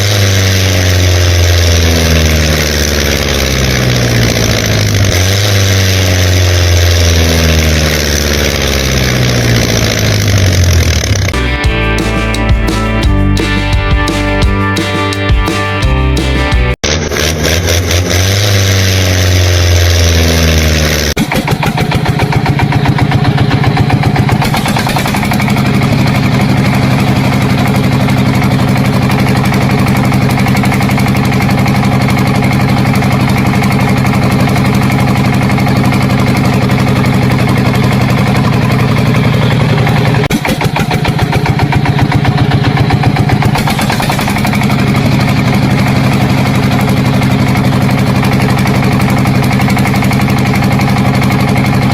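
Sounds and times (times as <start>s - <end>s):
engine running with even pulsing: 0.0s - 13.8s, 16.8s - 51.9s.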